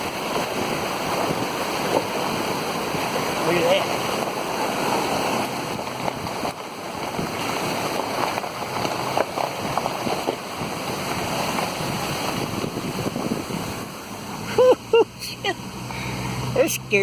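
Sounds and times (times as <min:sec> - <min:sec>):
floodwater rushing and splashing: 0:00.0 - 0:17.0.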